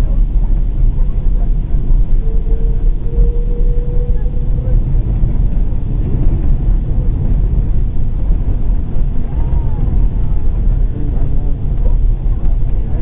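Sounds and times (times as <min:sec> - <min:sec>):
faint voices: 0:00.0 - 0:07.5, 0:08.2 - 0:13.0
airplane cabin engine rumble: 0:00.0 - 0:13.0.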